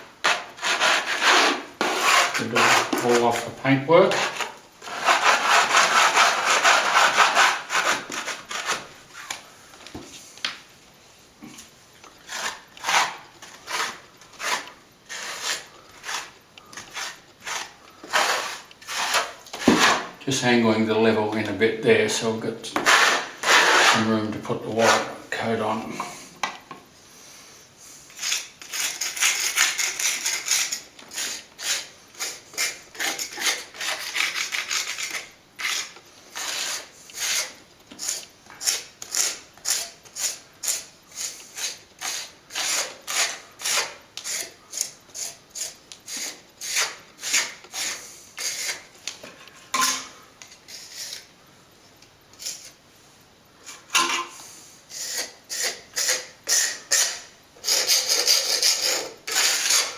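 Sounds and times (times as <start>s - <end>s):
plastering tool scraping plaster: 0.0s - 9.0s, 11.4s - 20.5s, 22.2s - 25.7s, 28.1s - 49.0s, 50.6s - 51.3s, 54.9s - 59.9s.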